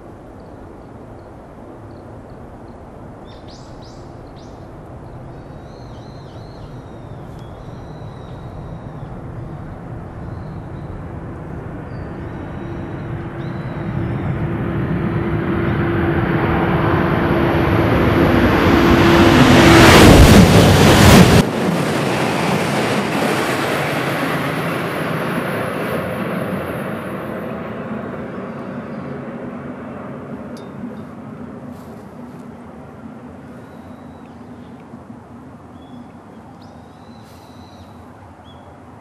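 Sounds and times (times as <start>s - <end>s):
high-speed train passing: 0.0s - 39.0s.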